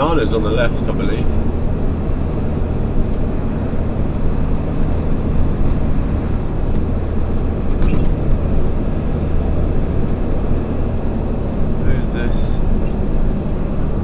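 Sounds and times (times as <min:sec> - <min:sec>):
car engine and tyre hum: 0:00.0 - 0:14.0.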